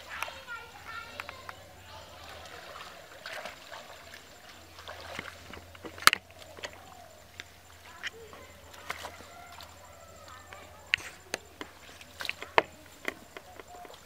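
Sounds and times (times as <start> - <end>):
splashing in shallow muddy water: 0.0 - 14.0.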